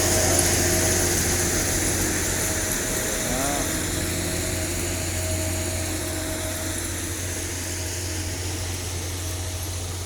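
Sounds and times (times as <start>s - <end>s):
heavy machine engine humming: 0.0s - 10.0s.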